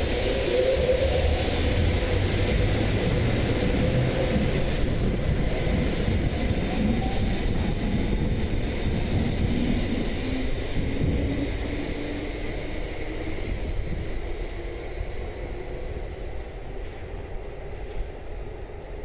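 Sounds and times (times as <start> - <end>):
train rushing noise: 0.0 - 19.0.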